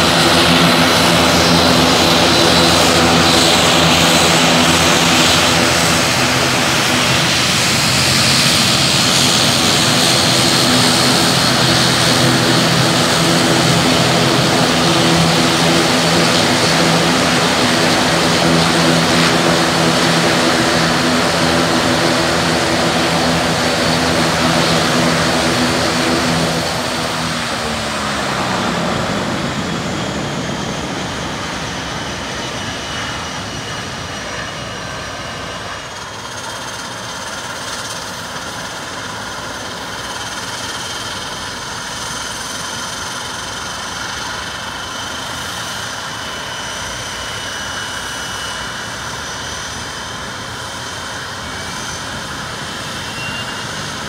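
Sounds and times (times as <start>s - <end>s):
high turbine whine: 0.0s - 54.0s
propeller hum winding down: 0.0s - 54.0s.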